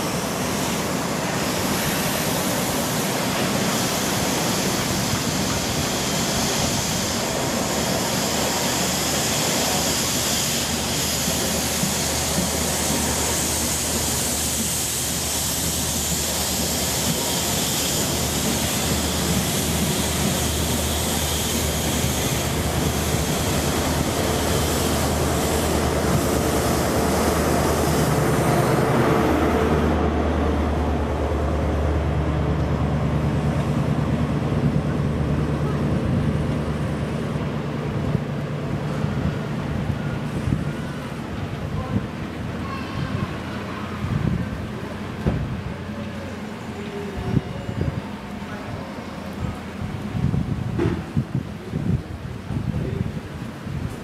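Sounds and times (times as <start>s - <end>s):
diesel train engines droning: 0.0s - 54.0s
train wheel noise: 0.0s - 54.0s.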